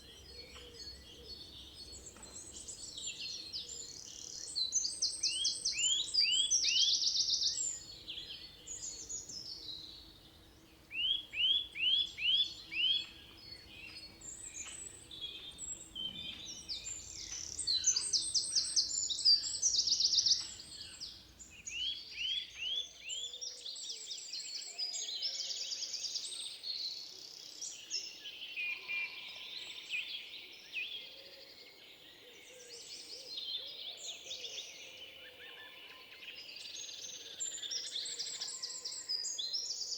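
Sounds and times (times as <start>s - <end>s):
songbirds whistling and trilling: 0.0s - 39.9s.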